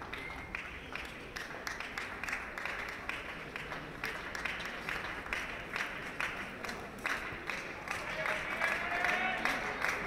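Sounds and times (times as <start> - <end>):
crowd clapping in unison: 0.0 - 10.0.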